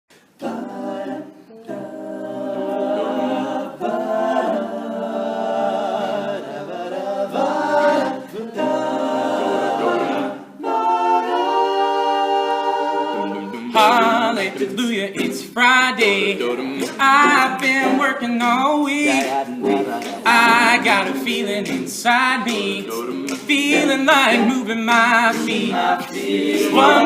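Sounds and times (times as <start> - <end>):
male vocal group singing chords: 0.2 - 27.0.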